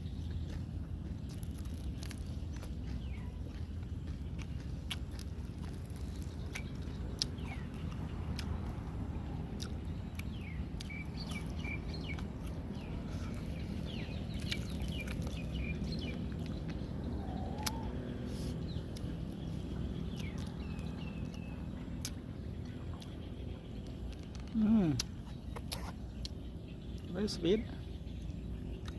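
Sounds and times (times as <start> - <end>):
birds chirping: 0.0 - 28.9
steady low rumble: 0.0 - 28.9.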